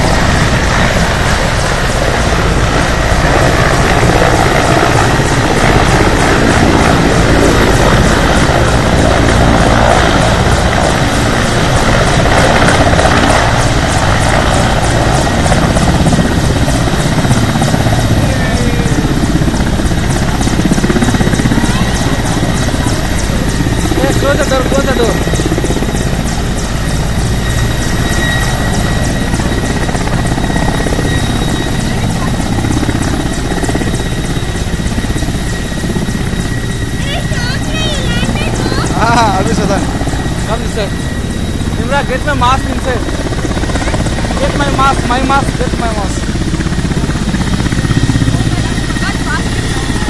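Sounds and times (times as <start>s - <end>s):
helicopter rotor thudding: 0.0s - 50.0s
high turbine whine: 0.0s - 50.0s.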